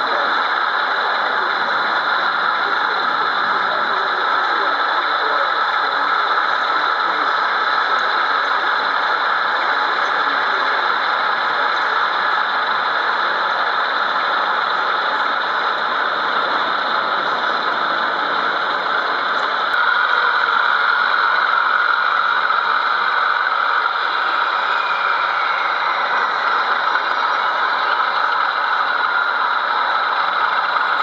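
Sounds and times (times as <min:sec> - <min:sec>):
diesel engine idling through speakers: 0:00.0 - 0:31.0.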